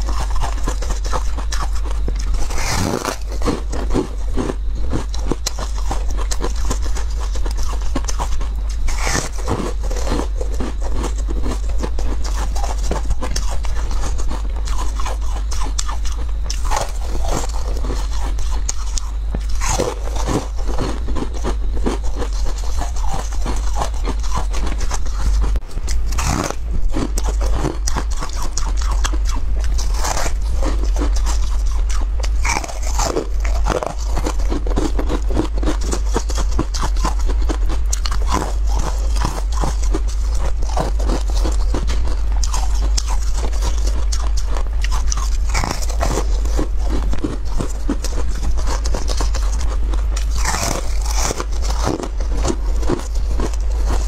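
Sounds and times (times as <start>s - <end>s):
person chewing crunchy food: 0.0s - 54.0s
steady low hum: 0.0s - 54.0s.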